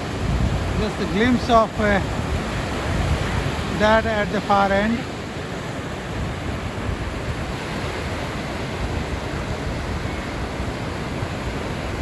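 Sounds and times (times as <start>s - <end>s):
surf breaking on beach: 0.0s - 12.0s
wind on microphone: 0.0s - 12.0s.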